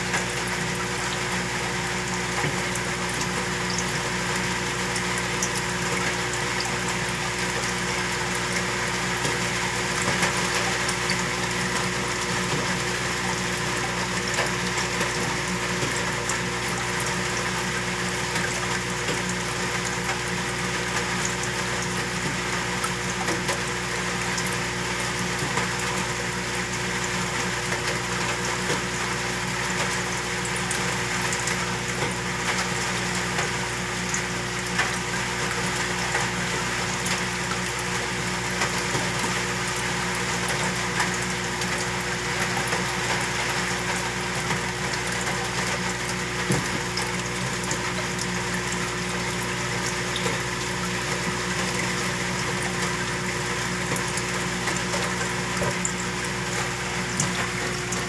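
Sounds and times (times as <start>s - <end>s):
aquarium pump humming: 0.0s - 58.0s
water circulating: 0.0s - 58.0s.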